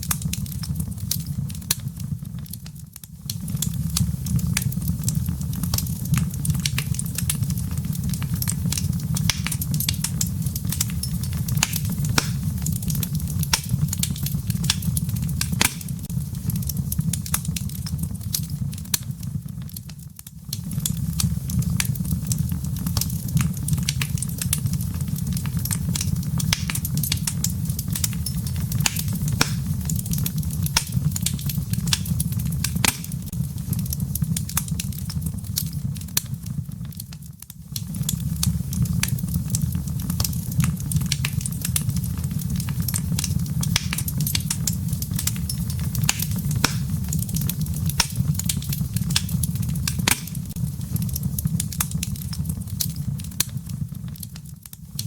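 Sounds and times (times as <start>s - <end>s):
low rumble of burning logs: 0.0s - 55.0s
wood fire crackling and popping: 0.0s - 55.0s.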